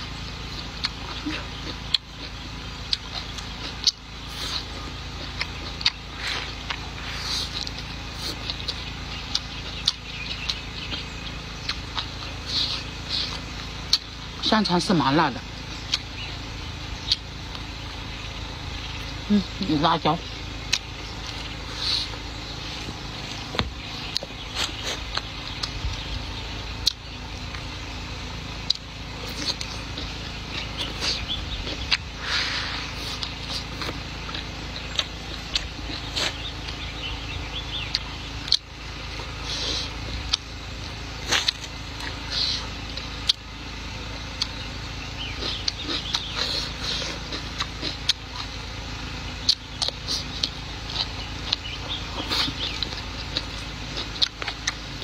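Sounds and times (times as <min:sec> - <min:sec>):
low background hum: 0:00.0 - 0:55.0
chewing and mouth smacking: 0:00.1 - 0:19.5, 0:20.6 - 0:55.0.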